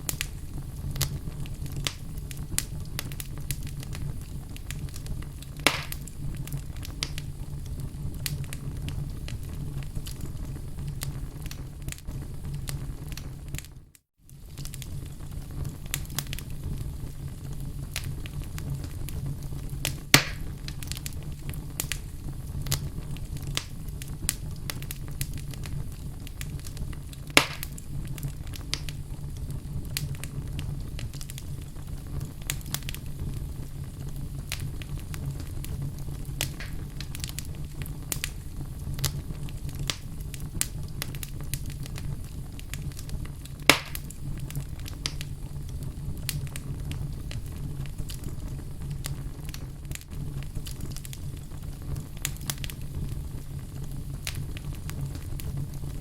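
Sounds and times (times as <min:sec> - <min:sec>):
sharp pops of fire: 0:00.0 - 0:13.7, 0:14.3 - 0:56.0
fire crackling: 0:00.0 - 0:56.0
low rumble of flames: 0:00.0 - 0:56.0.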